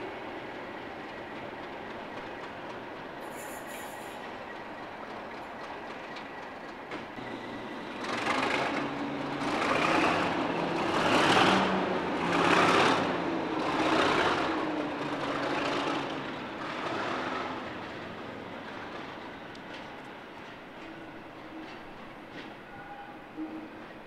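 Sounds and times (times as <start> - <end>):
diesel locomotive engine pulling away: 0.0 - 24.0.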